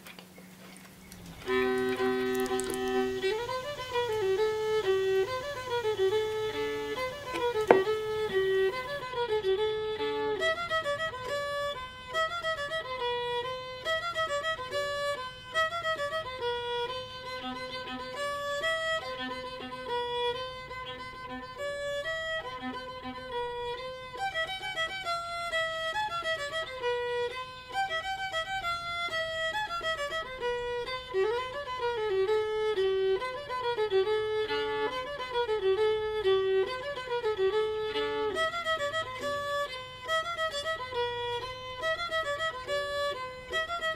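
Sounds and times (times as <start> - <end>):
fiddle playing a tune: 0.6 - 43.9.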